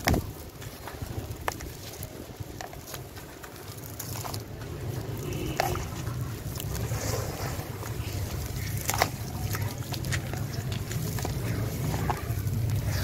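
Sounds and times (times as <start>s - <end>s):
falling grit clicks: 0.0s - 13.0s
gritty sand crunching: 0.0s - 13.0s
wind rumble on microphone: 0.0s - 13.0s.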